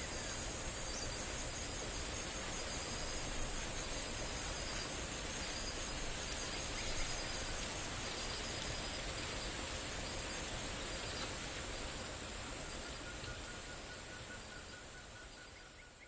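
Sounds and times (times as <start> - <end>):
insects droning: 0.0 - 16.0
soft background hiss: 0.0 - 16.0.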